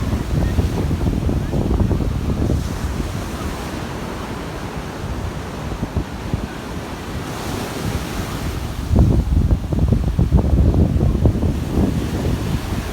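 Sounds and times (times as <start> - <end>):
surf breaking on shore: 0.0 - 12.9
wind buffeting microphone: 0.0 - 12.9.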